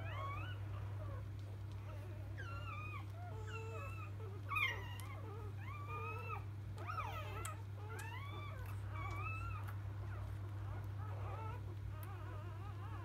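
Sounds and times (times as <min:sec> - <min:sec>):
puppies squeaking and whining: 0:00.0 - 0:13.0.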